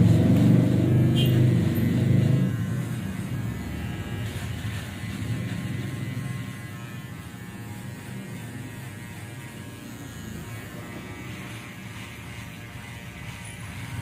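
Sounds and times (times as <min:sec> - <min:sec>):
electric hair trimmer buzzing: 0:00.0 - 0:14.0.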